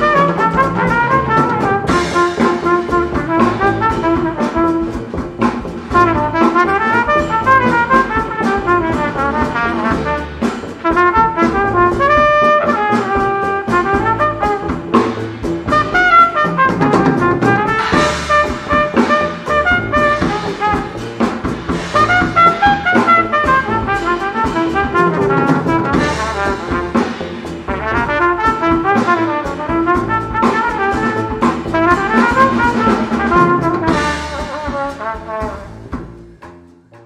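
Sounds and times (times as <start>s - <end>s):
cornet solo: 0.0s - 35.9s
drum kit with cymbals: 0.0s - 37.0s.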